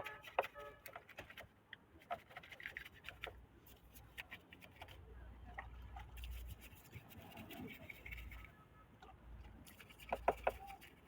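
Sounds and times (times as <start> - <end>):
hands clicking and scratching: 0.0 - 5.0, 5.6 - 8.5, 9.4 - 11.0.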